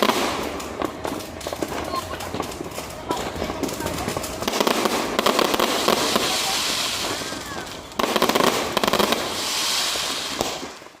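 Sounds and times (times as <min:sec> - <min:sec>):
fireworks crackling: 0:00.0 - 0:11.0
steady hiss: 0:00.0 - 0:11.0.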